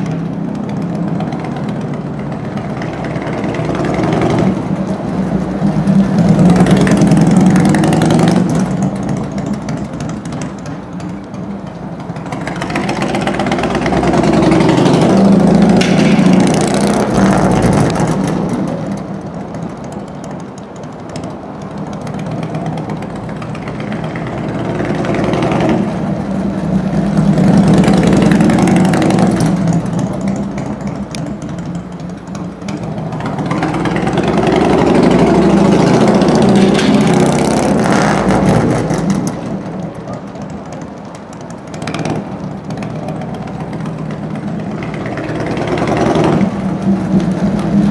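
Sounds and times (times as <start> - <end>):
motorcycle engine revving: 0.0 - 11.3, 12.1 - 20.2, 21.1 - 47.9.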